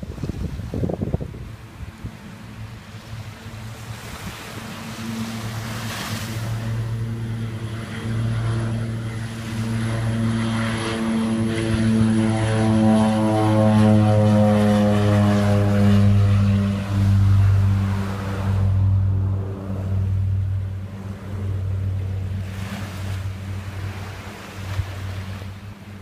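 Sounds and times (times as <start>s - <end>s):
propeller plane engine drone: 0.0s - 26.0s.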